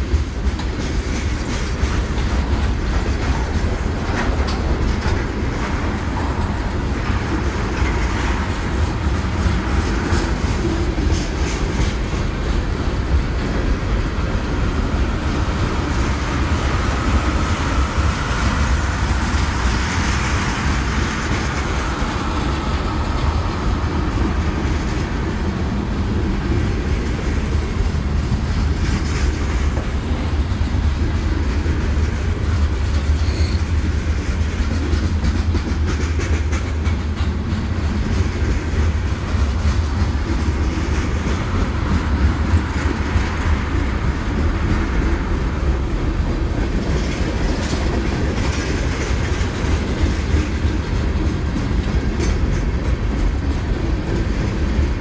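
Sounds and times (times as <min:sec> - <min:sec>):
freight cars rumbling: 0:00.0 - 0:55.0
wheels clicking over rail joints: 0:00.0 - 0:55.0.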